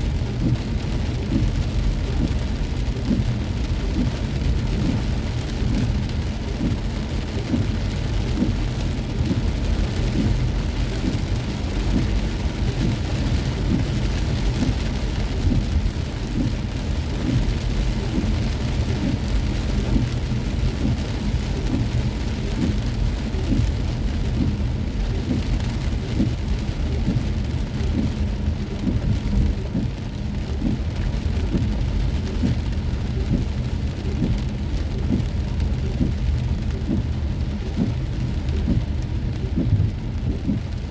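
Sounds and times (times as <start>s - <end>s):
car driving low rumble: 0.0s - 40.9s
heavy rain on a car: 0.0s - 40.9s.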